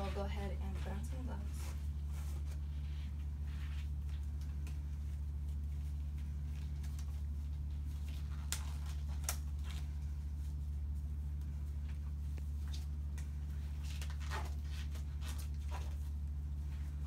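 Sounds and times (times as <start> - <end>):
gloves rustling: 0.0 - 17.0
steady low hum: 0.0 - 17.0.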